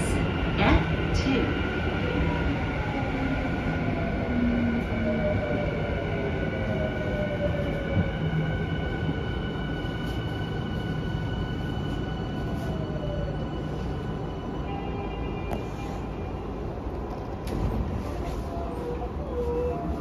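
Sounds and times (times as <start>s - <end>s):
train wheel and track rumble: 0.0s - 20.0s.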